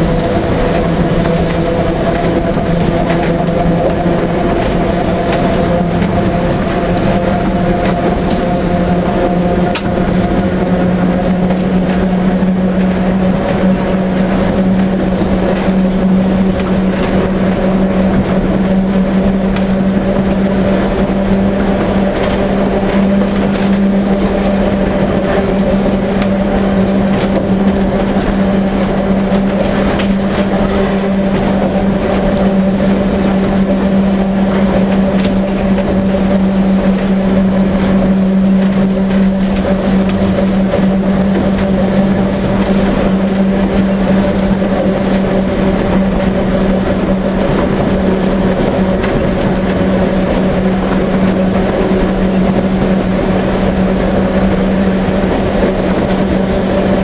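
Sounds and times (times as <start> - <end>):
steady humming tone: 0.0 - 57.0
tram clattering on rails: 0.0 - 57.0.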